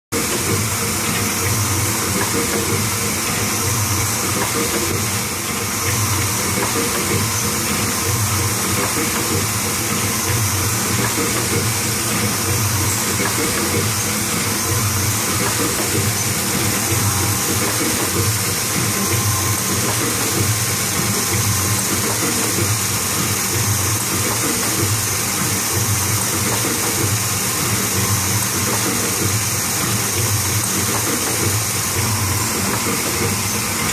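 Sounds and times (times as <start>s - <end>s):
press machine running: 0.2s - 33.9s.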